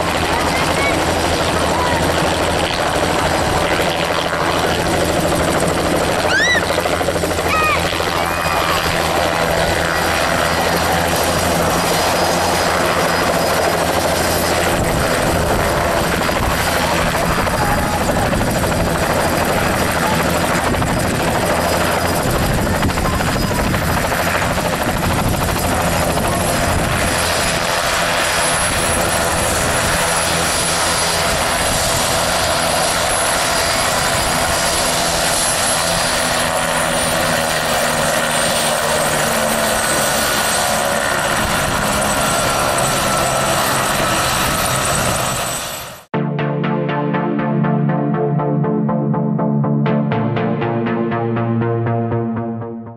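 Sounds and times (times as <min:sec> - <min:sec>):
helicopter rotor and turbine engine: 0:00.0 - 0:46.2.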